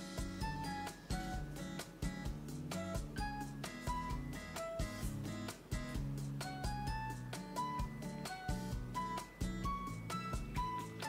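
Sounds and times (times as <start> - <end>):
light melodic background music: 0.0 - 11.0.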